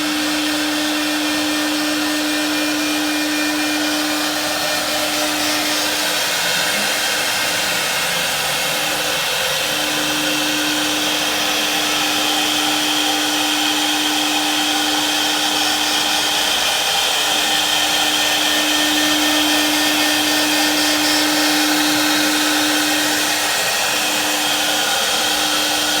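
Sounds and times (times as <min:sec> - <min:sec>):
cnc machine motor hum and whine: 0:00.0 - 0:26.0.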